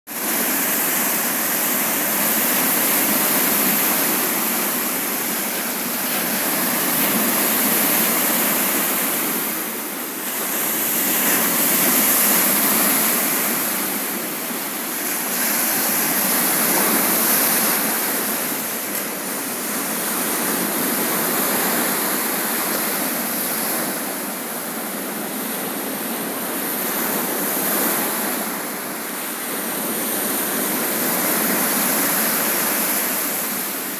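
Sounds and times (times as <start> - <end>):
waves breaking: 0.1 - 33.9.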